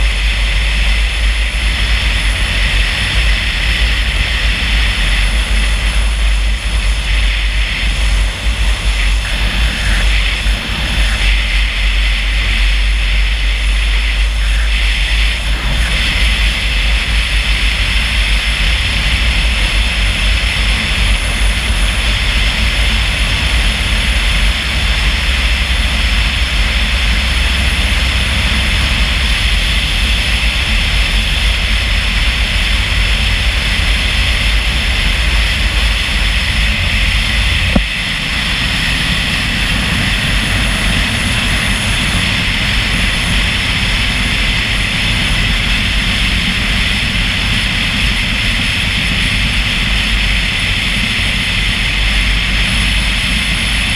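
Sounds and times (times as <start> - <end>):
vehicle driving rumble and hiss: 0.0 - 53.9.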